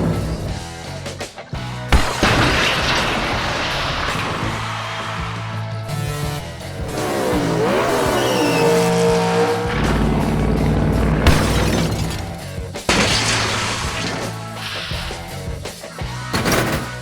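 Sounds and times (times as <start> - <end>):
truck engine revving: 0.0 - 1.0, 1.9 - 15.6
background music: 0.0 - 17.0.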